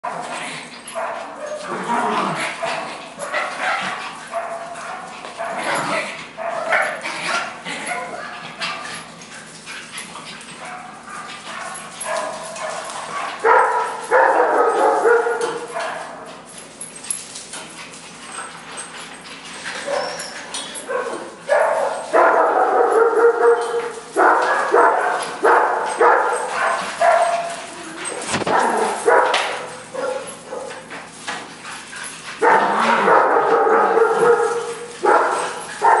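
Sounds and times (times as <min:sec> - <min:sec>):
puppies yipping and barking: 0:00.7 - 0:36.0.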